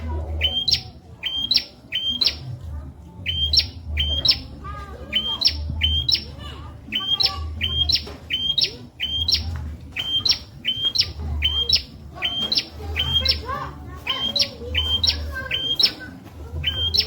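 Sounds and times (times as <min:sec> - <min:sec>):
bird singing high rising notes: 0:00.4 - 0:02.5, 0:03.2 - 0:13.5, 0:14.1 - 0:16.0, 0:16.6 - 0:17.0.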